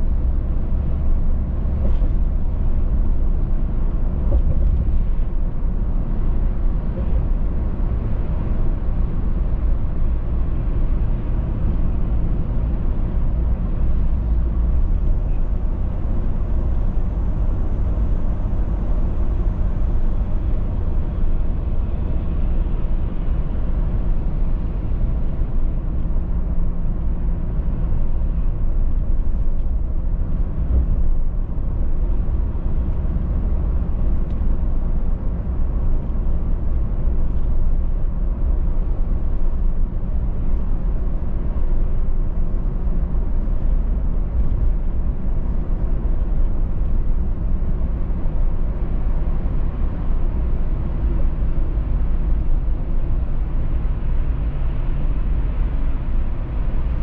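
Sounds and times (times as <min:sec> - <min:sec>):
car road noise from inside: 0:00.0 - 0:57.0.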